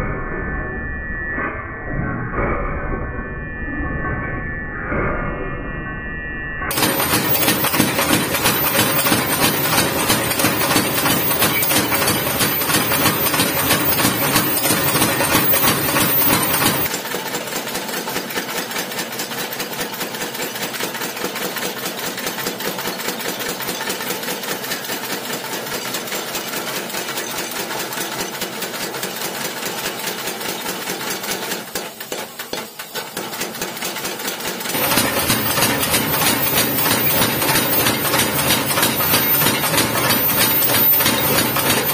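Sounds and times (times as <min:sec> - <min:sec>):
power hammer pounding metal: 0:06.7 - 0:20.0, 0:21.3 - 0:41.9.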